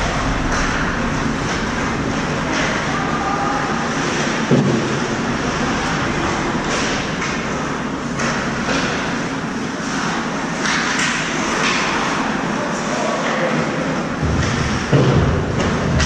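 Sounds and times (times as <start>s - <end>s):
ice rink rumbling: 0.0s - 16.0s.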